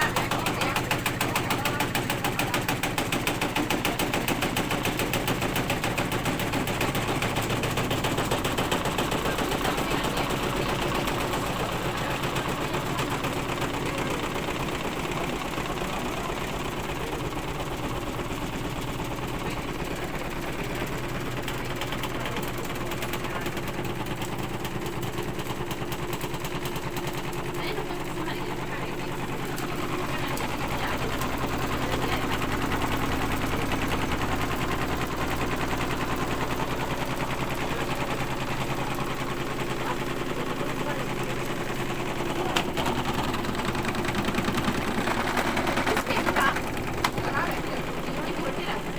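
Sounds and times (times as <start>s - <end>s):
washing machine knocking: 0.0s - 48.9s.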